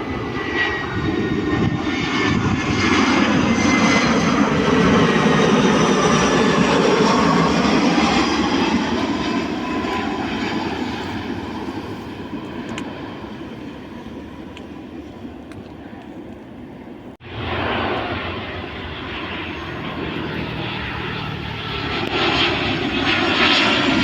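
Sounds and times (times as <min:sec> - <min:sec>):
jet airliner roar: 0:00.0 - 0:24.0.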